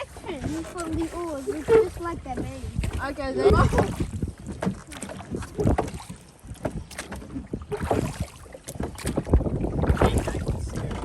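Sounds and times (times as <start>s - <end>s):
oars dipping into water: 0.0s - 11.0s
oars knocking in rowlocks: 0.0s - 11.0s
wind rumble on microphone: 0.0s - 11.0s.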